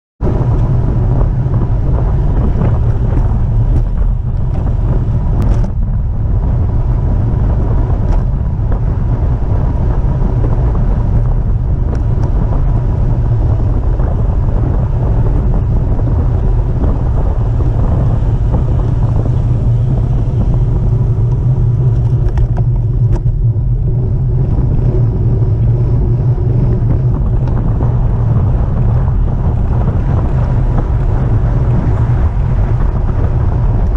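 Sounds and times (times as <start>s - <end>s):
road noise: 0.2s - 33.9s
wind buffeting microphone: 0.2s - 33.9s.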